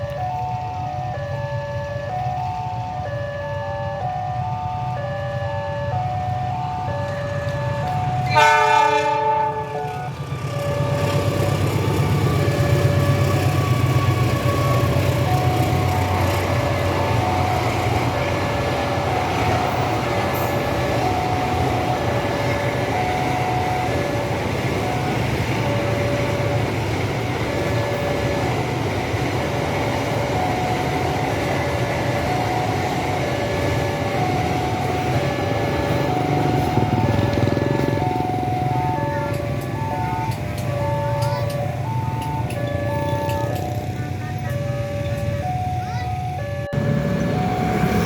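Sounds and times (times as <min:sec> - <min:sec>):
crossing warning signal tones: 0:00.0 - 0:48.0
freight train rumbling past: 0:00.0 - 0:48.0.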